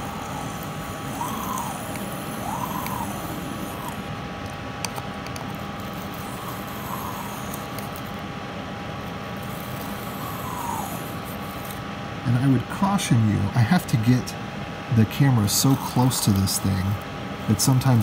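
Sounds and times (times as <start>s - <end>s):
extractor fan running: 0.0s - 18.0s.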